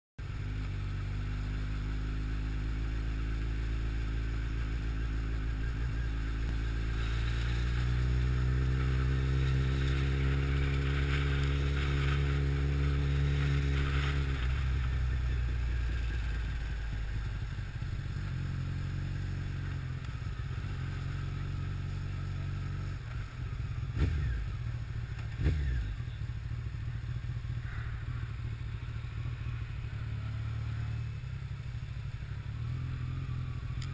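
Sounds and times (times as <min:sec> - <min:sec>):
motorcycle engine running: 0:00.2 - 0:33.9.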